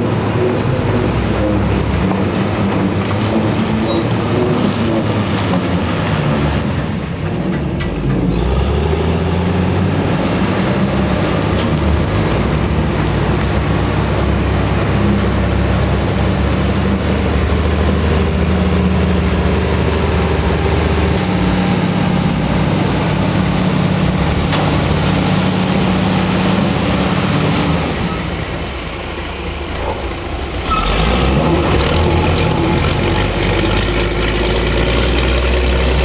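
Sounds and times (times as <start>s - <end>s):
heavy machine engine drone: 0.0s - 36.0s.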